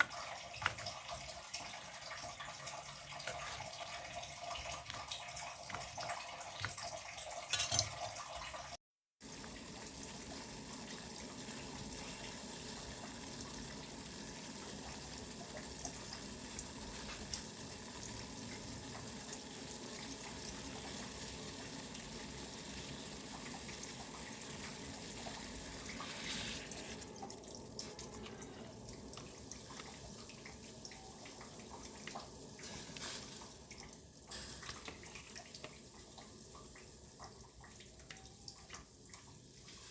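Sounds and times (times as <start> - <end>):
tap water running into sink: 0.0 - 39.9.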